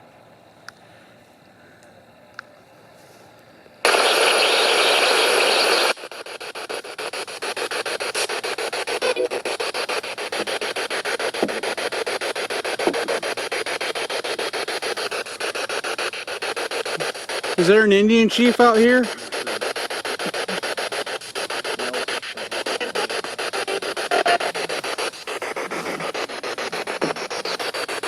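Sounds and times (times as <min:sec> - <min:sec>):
radio static bursts: 0:03.8 - 0:28.0.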